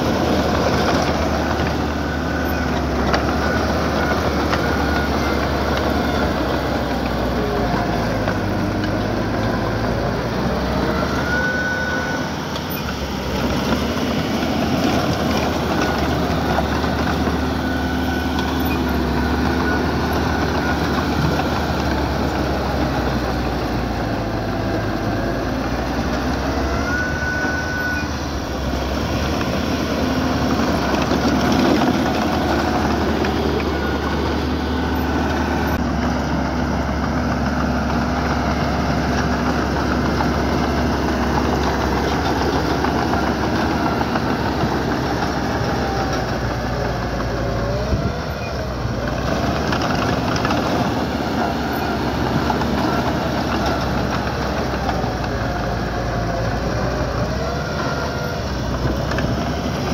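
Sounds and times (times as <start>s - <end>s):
diesel engine of machinery running: 0.0s - 59.9s.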